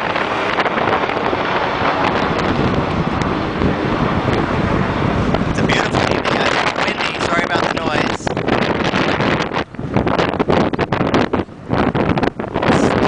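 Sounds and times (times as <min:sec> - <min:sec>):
jet airliner roaring overhead: 0:00.0 - 0:13.0
wind buffeting microphone: 0:00.0 - 0:13.0.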